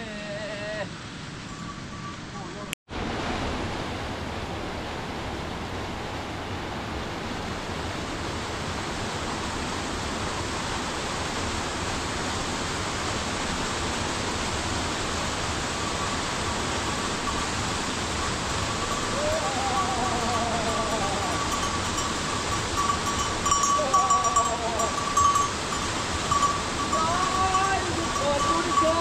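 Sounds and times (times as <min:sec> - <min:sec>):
stream rushing over rocks: 0:02.9 - 0:29.0.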